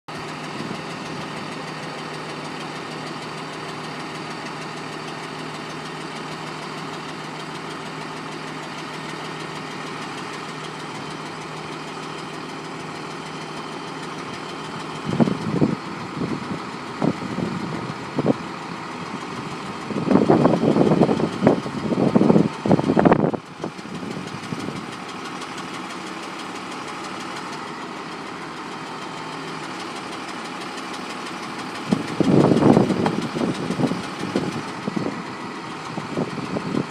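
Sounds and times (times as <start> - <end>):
diesel truck engine idling: 0.1 - 36.9.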